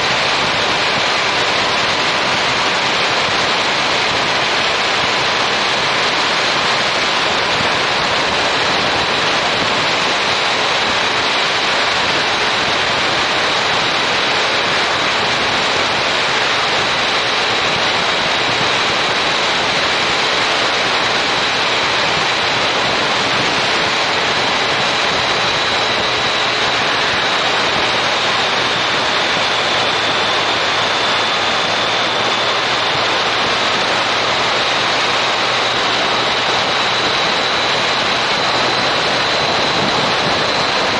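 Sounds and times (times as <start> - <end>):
wind rushing on microphone: 0.0 - 40.9.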